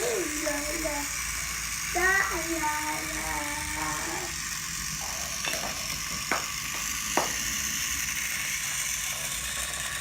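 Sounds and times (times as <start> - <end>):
toy train running hiss: 0.0 - 10.0.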